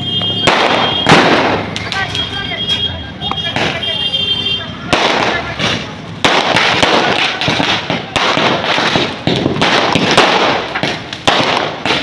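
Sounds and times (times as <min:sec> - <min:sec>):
crackling of firework sparks: 0:00.0 - 0:12.0
fireworks bangs: 0:00.0 - 0:12.0.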